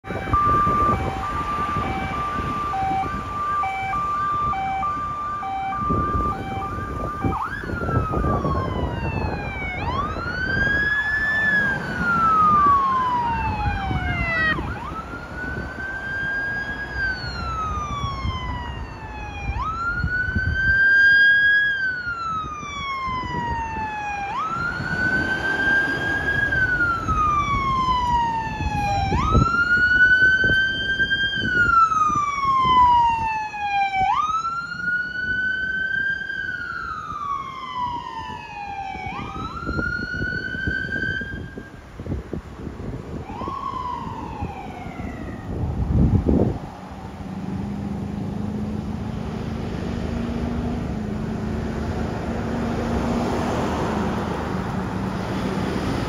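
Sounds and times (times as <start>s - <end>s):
emergency sirens: 0.0s - 56.0s
road traffic noise: 0.0s - 56.0s.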